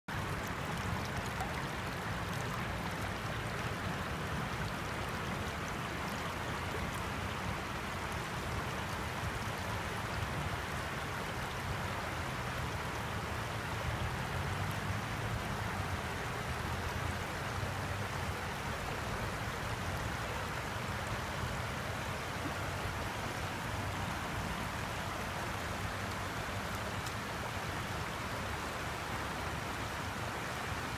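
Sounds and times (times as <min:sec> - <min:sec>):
creek water flowing over rocks: 0:00.1 - 0:30.9.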